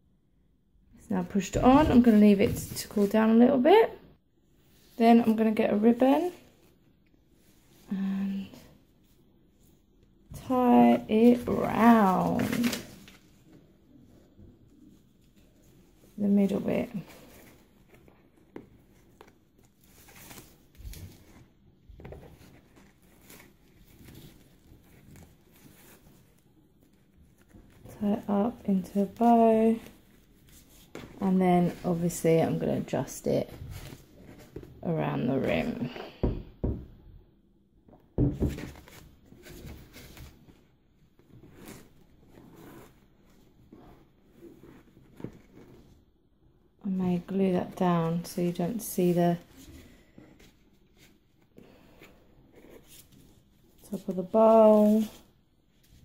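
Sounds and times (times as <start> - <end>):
ribbon rustling and scuffing: 1.3 - 3.4, 9.0 - 36.0, 38.2 - 46.1, 47.6 - 56.0.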